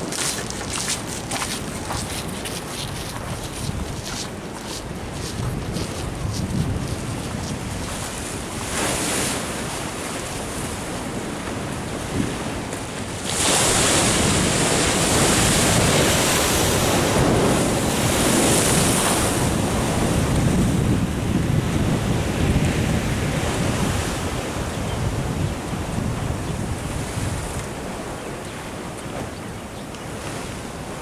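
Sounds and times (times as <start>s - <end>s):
wind buffeting microphone: 0.0s - 12.7s, 13.4s - 31.0s
ocean surf against sea wall: 0.0s - 31.0s.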